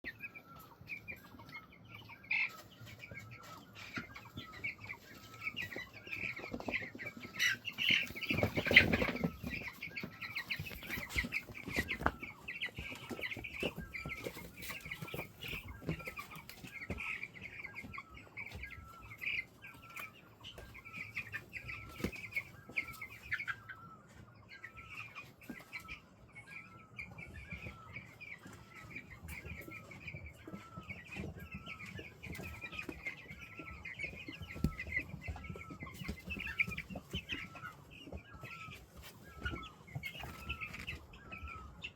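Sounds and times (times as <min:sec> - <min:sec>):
chickens calling: 0:00.0 - 0:41.9.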